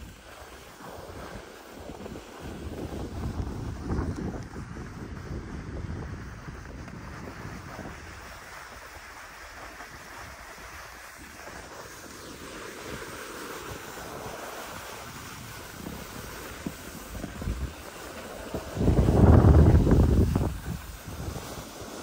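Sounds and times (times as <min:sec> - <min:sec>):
skis sliding on snow: 0:00.0 - 0:22.0
wind on microphone: 0:00.0 - 0:22.0.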